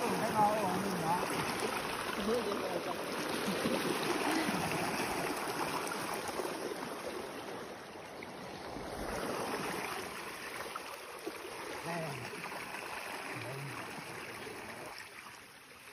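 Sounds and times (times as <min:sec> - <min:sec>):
river rushing: 0:00.0 - 0:15.2.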